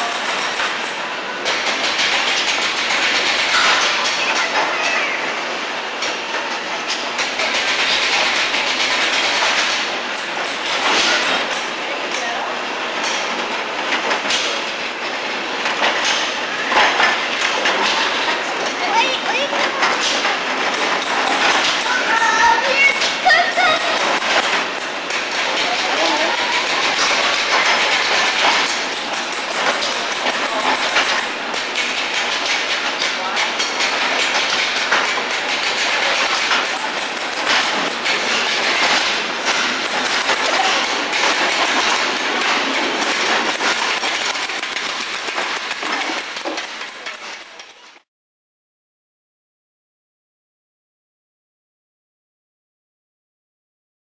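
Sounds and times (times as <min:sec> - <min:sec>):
ride car wheels rolling: 0:00.0 - 0:48.0.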